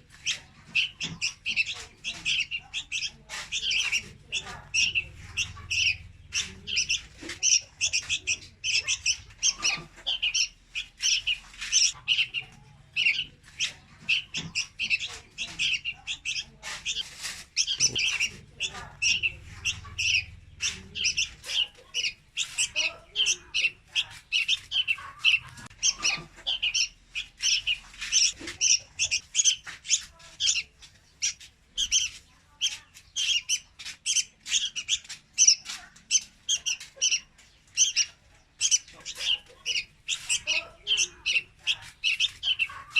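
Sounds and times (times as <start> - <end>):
birds chirping rapidly: 0.0 - 42.9.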